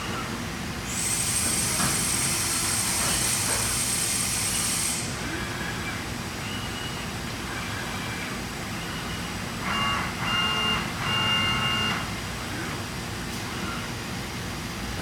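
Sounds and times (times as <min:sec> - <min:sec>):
machining center hum: 0:00.0 - 0:15.0.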